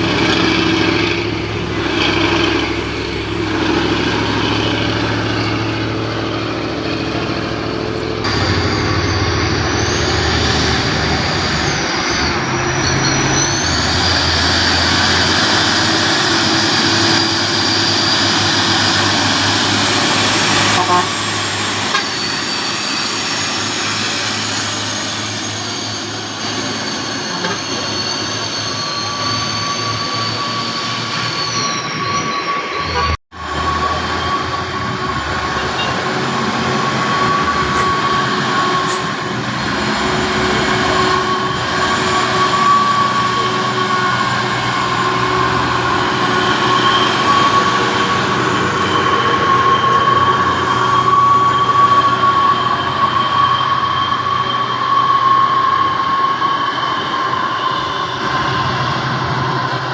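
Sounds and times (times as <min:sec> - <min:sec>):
diesel trucks labouring uphill: 0:00.0 - 0:59.9
high-pitched whines: 0:00.0 - 0:59.9.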